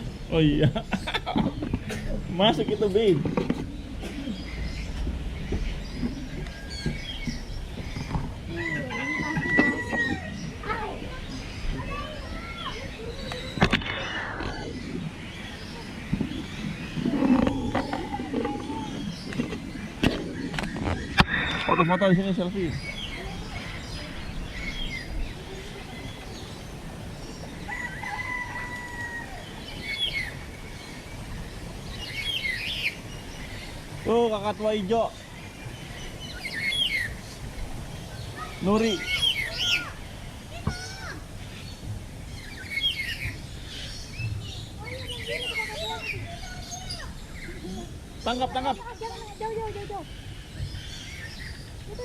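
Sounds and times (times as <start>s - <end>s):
faint chatter of visitors: 0.0s - 32.0s, 35.0s - 52.0s
birds chirping: 0.0s - 52.0s.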